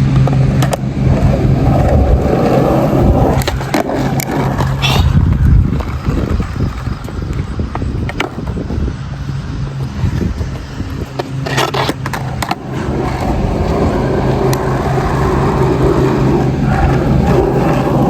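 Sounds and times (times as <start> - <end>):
skateboard clacks: 0.0 - 18.0
skateboard wheels rolling on concrete: 0.0 - 18.0.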